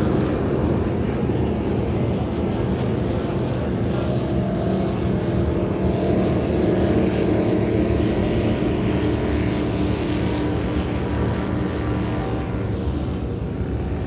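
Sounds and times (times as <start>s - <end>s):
powerboat engines droning: 0.0s - 14.0s.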